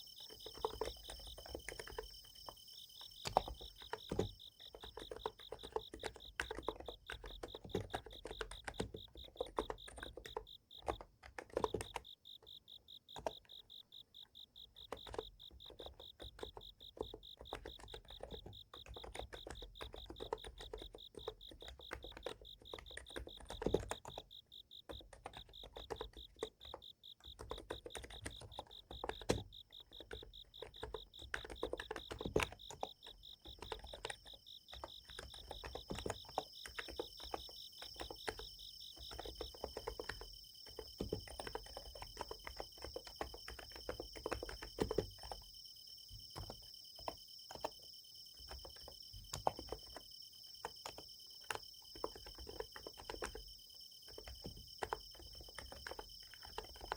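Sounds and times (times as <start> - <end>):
keyboard typing: 0.0 - 56.9
night insects trilling: 0.0 - 56.9.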